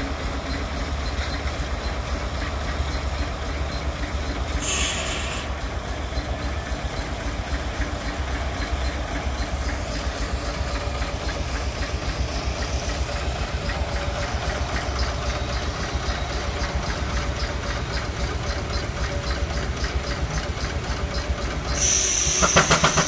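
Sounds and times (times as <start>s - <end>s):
steam traction engine running: 0.0s - 23.0s.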